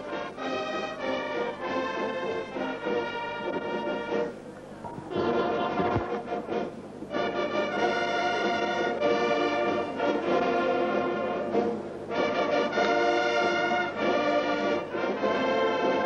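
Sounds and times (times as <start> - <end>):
orchestral music with brass chords: 0.0 - 4.5, 5.1 - 16.0.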